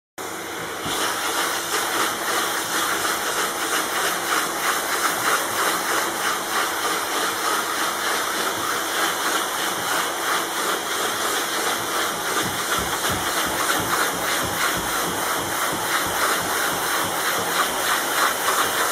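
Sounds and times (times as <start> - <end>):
vacuum cleaner hissing on cloth: 0.2 - 18.9.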